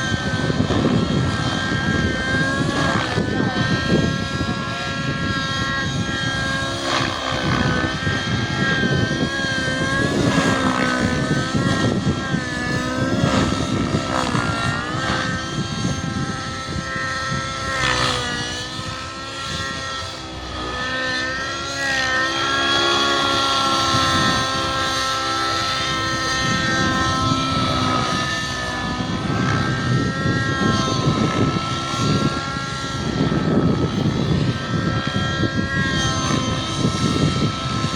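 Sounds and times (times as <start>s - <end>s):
rc helicopter motor whine: 0.0s - 37.9s.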